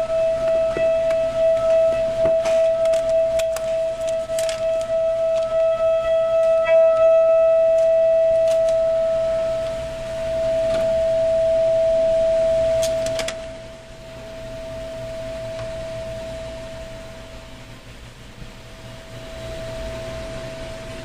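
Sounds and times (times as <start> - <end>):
singing bowl ringing: 0.0 - 17.4, 18.9 - 21.0.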